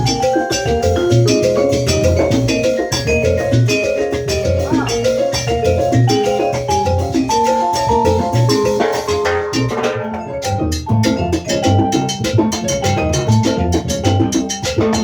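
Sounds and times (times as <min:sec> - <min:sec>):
salsa band music: 0:00.0 - 0:15.0.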